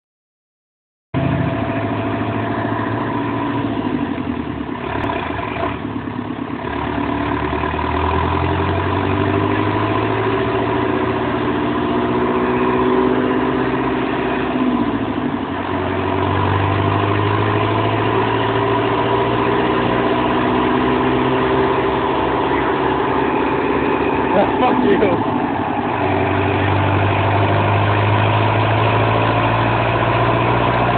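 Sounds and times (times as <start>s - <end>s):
turbo diesel engine running: 1.2s - 30.9s.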